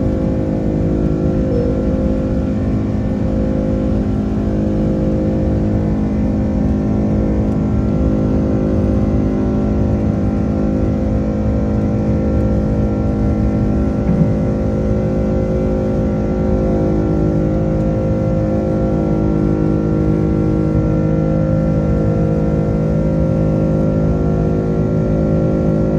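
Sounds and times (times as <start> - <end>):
jet engines at takeoff power: 0.0 - 25.9.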